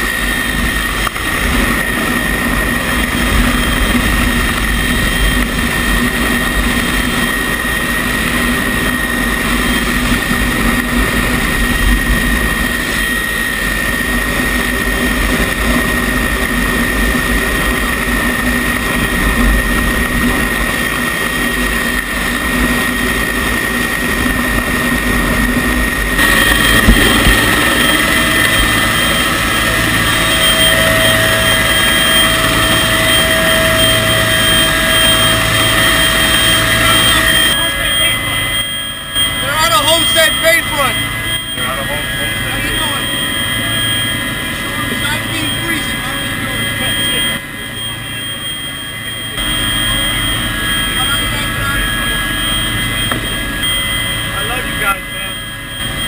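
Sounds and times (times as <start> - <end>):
helicopter rotor and turbine whine: 0.0 - 56.0
higher whine: 0.0 - 56.0.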